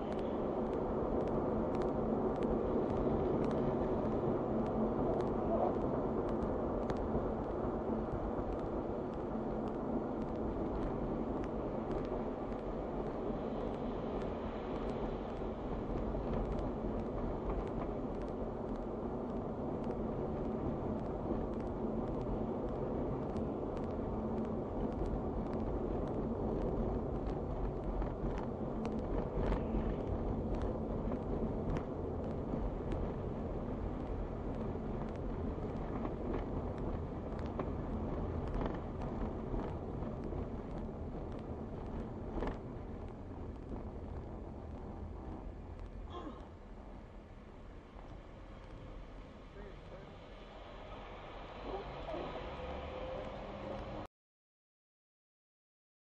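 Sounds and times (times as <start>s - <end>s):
road and tyre noise: 0.0s - 54.1s.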